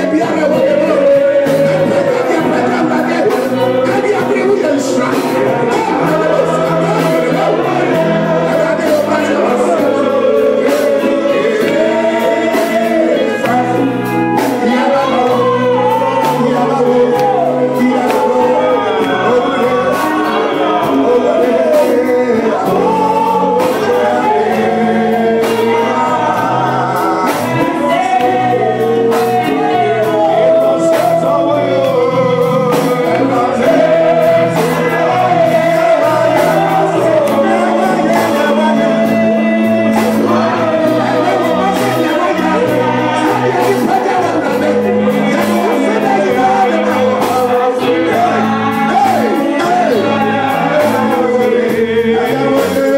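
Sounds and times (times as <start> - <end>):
band with stepping bass line: 0.0 - 52.9
voices singing gospel: 0.0 - 52.9.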